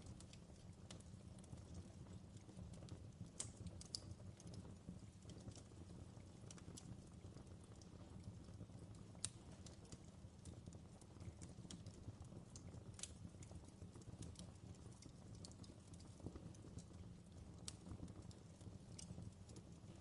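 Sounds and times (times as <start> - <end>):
faint clicks and crackles: 0.0 - 20.0.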